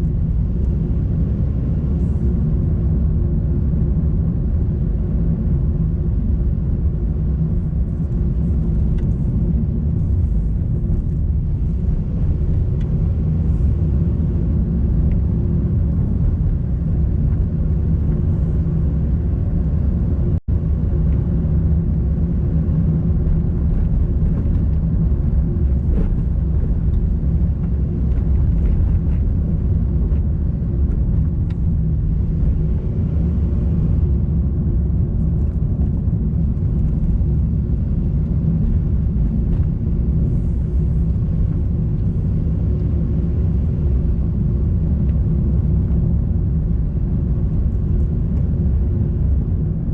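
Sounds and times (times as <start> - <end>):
car engine and road rumble: 0.0 - 49.9.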